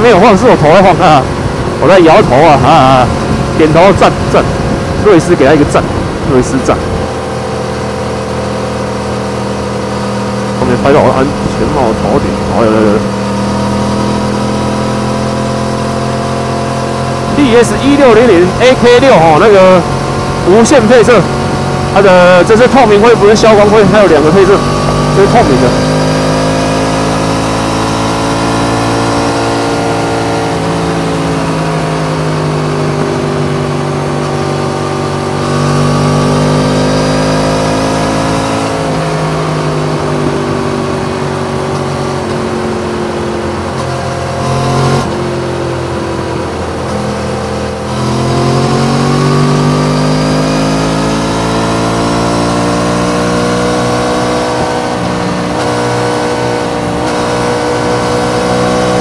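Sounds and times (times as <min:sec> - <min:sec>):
motorcycle engine running under load: 0:00.0 - 0:59.0.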